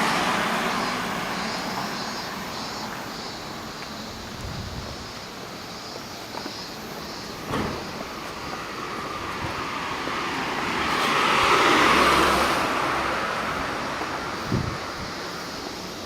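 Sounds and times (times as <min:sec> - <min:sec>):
car passing by: 0:00.0 - 0:04.4, 0:07.1 - 0:16.0.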